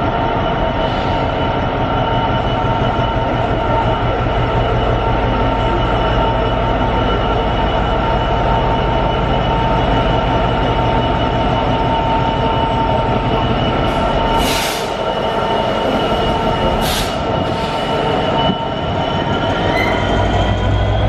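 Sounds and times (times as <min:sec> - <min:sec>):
diesel locomotive engine running: 0:00.0 - 0:21.0
wheels rumbling on rail: 0:00.0 - 0:21.0.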